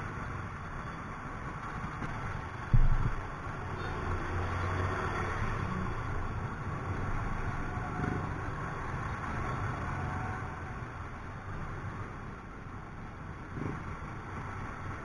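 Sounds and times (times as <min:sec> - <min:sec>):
road and traffic noise: 0:00.0 - 0:15.0.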